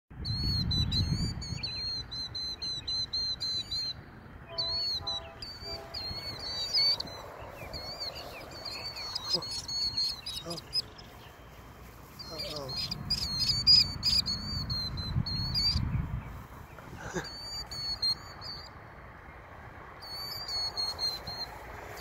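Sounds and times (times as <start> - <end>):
killdeer calling: 0.2 - 18.9, 20.0 - 22.0.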